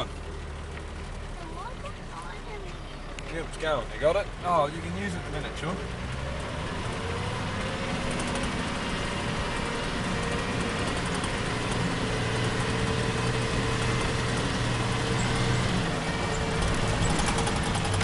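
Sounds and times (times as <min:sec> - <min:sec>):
off-road engine under load: 0:00.0 - 0:18.0.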